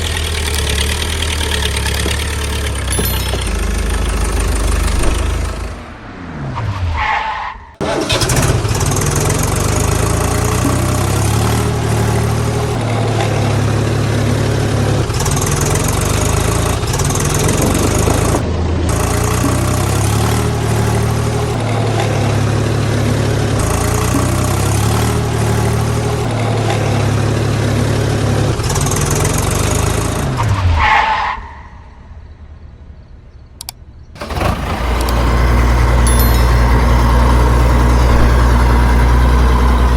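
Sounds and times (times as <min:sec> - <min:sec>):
vehicle engine running: 0:00.0 - 0:06.3, 0:07.8 - 0:30.4, 0:34.2 - 0:39.9.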